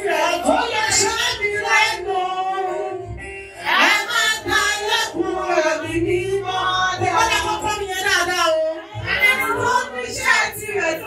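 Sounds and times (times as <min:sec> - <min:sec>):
woman singing into microphone: 0:00.0 - 0:11.0.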